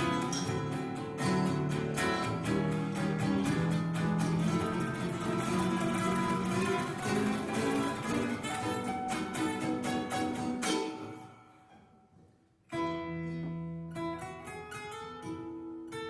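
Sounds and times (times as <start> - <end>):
flamenco-like acoustic guitar: 0.0 - 16.0.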